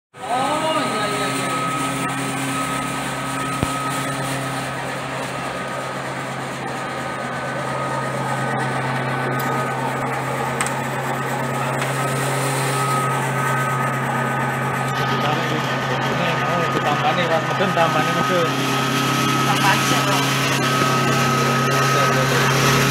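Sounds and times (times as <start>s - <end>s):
noodle machine motor humming: 0.2s - 22.9s.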